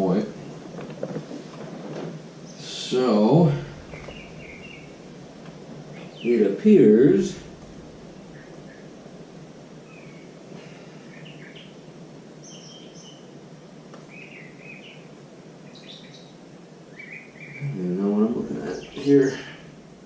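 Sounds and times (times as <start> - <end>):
small birds chirping: 0.0 - 1.1, 2.2 - 20.0
steady background hiss: 0.0 - 20.0.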